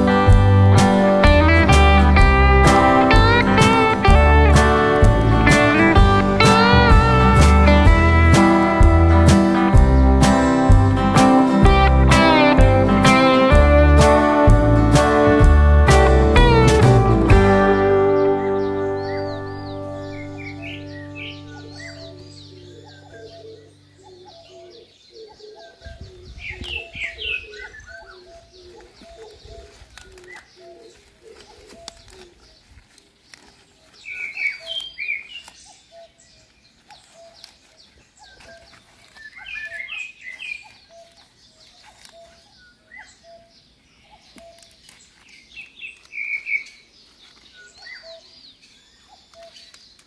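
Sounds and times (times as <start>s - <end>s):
high bird chirping: 0.0s - 32.6s, 33.9s - 50.0s.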